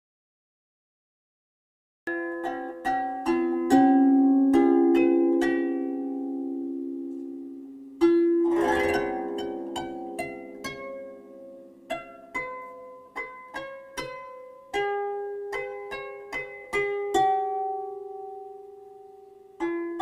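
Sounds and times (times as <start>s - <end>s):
slow plucked-string melody: 2.1s - 20.0s.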